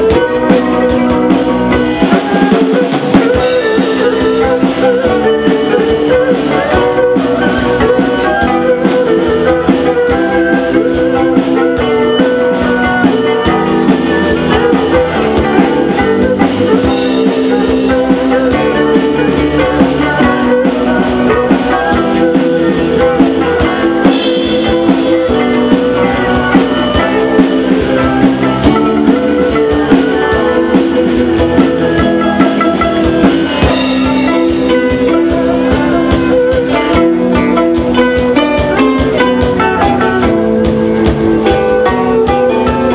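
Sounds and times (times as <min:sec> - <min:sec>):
drum kit: 0:00.0 - 0:42.9
plucked lutes playing melody: 0:00.0 - 0:42.9.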